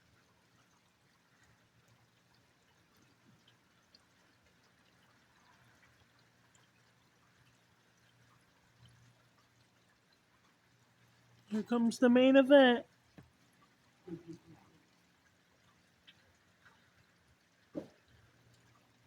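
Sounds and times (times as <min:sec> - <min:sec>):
faint rain dripping: 0:00.0 - 0:19.0
low steady hum: 0:00.0 - 0:19.0.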